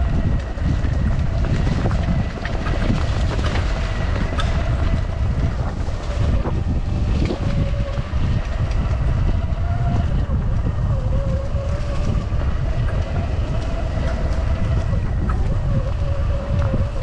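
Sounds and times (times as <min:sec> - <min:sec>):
bike knocking and rattling: 0:00.0 - 0:17.0
electric motor whine: 0:00.0 - 0:17.0
wind rumble on microphone: 0:00.0 - 0:17.0.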